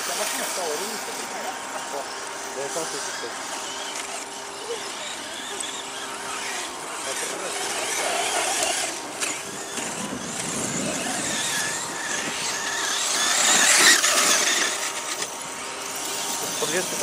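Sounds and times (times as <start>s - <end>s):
small motors whining: 0.0s - 17.0s.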